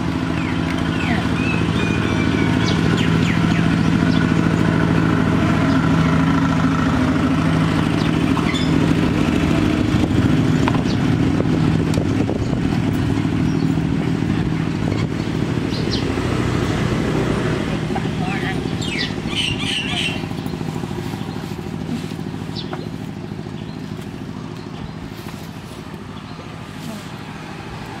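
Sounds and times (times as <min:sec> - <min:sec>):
small engine running: 0:00.0 - 0:28.0.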